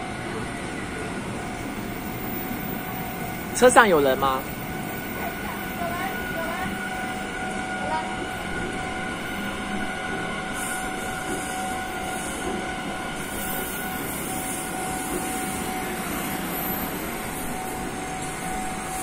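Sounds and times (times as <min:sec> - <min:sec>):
high whine of train: 0:00.0 - 0:19.0
train wheels rumbling on rail: 0:00.0 - 0:19.0.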